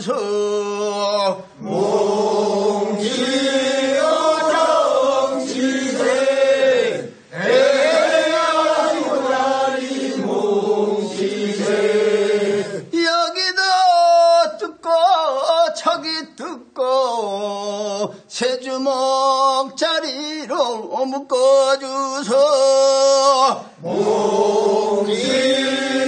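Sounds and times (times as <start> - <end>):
call-and-response work song singing: 0.0 - 26.0.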